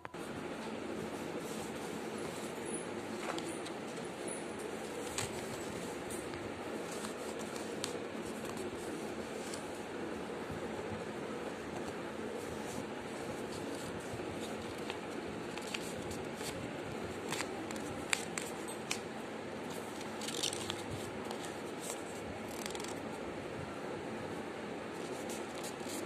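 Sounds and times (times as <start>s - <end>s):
paper crackling and creasing: 0.9s - 10.2s, 11.0s - 23.2s, 25.0s - 26.0s.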